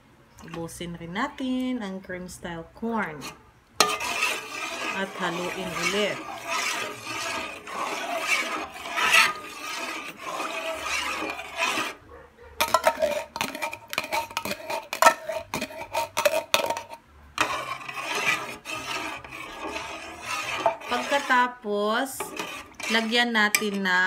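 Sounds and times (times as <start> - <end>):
metal spoon scraping a pot: 2.4 - 12.0, 12.6 - 24.0.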